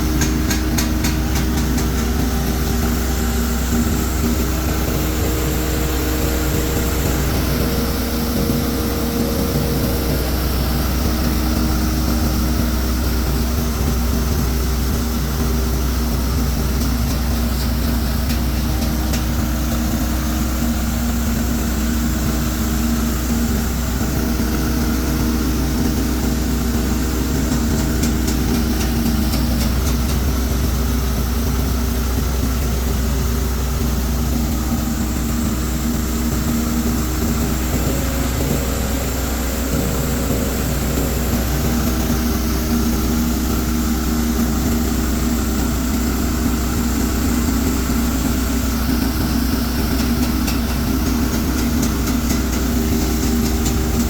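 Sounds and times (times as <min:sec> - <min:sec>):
diesel engine driving mill: 0:00.0 - 0:54.0.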